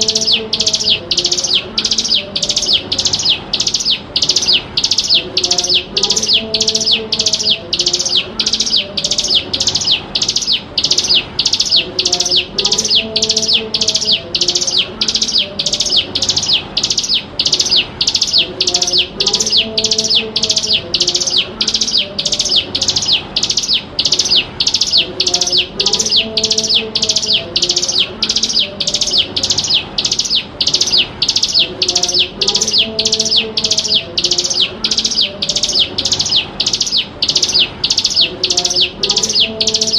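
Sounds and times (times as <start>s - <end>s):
bird chirping high notes: 0.0s - 39.9s.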